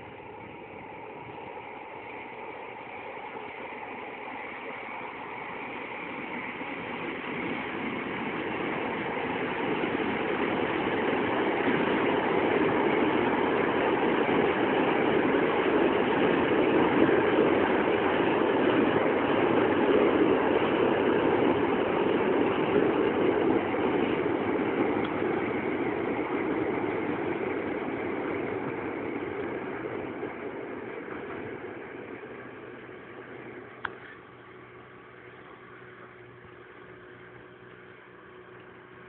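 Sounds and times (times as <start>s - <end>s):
train wheels rumbling on bridge: 0.0s - 35.2s.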